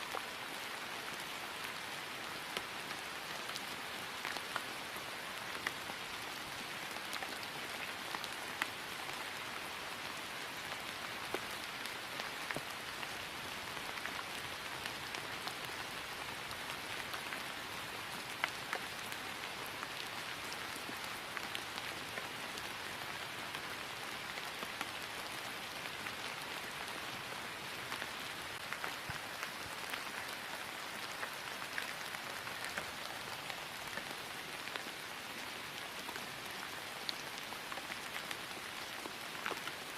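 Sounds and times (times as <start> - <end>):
rain falling on grass: 0.0 - 39.9.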